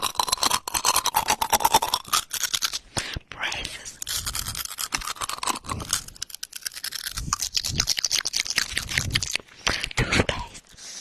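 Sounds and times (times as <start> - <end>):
wet mouth clicks and smacks: 0.0 - 10.1.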